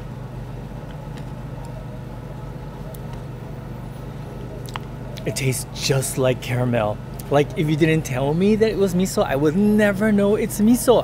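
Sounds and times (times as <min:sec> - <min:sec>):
street background hum: 0:00.0 - 0:11.0.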